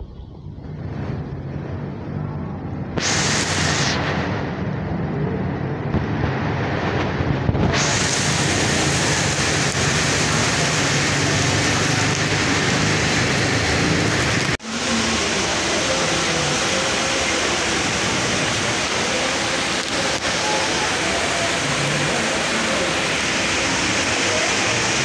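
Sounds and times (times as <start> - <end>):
rain falling: 2.9 - 25.0.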